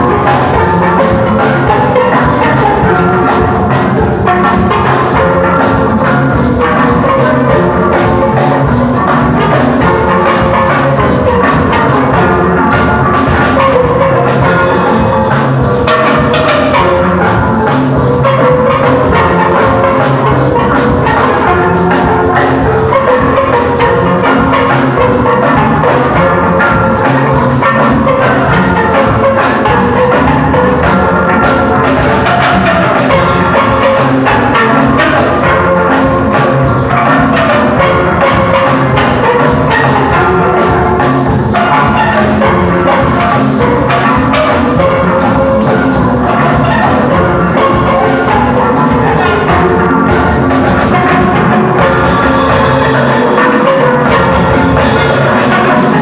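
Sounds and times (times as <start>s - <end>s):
bass pans: 0.0s - 56.0s
drum kit beat: 0.0s - 56.0s
steel pans playing runs: 0.0s - 56.0s.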